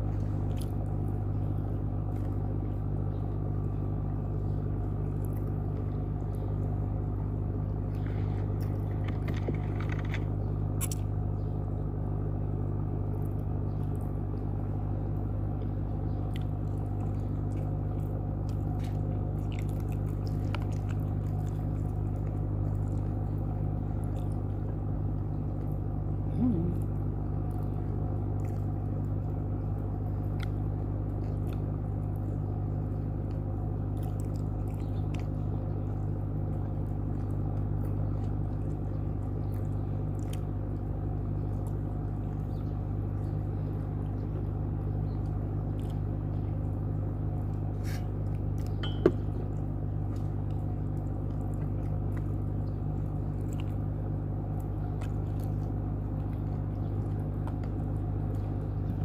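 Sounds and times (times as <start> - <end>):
chewing and biting: 0.0 - 59.0
steady low hum: 0.0 - 59.0.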